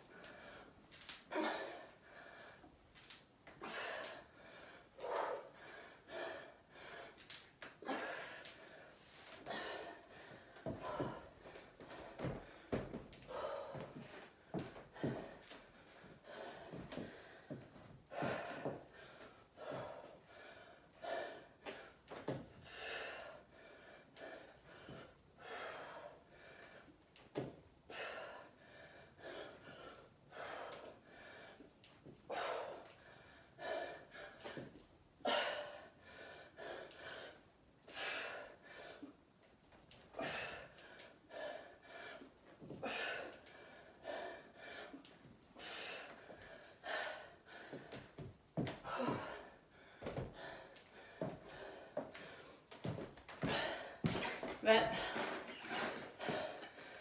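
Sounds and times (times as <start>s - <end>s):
woman breathing hard: 0.0s - 57.0s.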